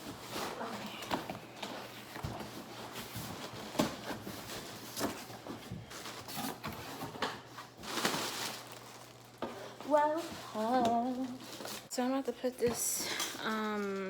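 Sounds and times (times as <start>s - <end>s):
parcel rustling: 0.0s - 11.9s.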